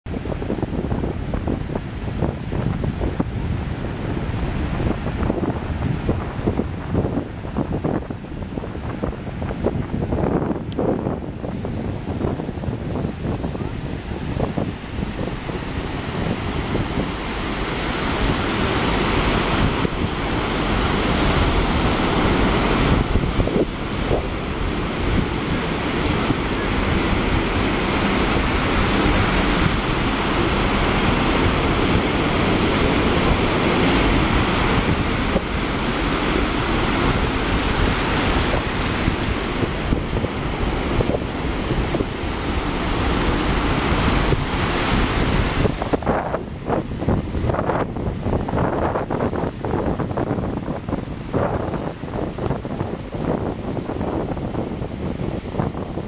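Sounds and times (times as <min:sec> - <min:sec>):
wind buffeting microphone: 0:00.0 - 0:56.0
surf washing over sand: 0:00.1 - 0:56.0.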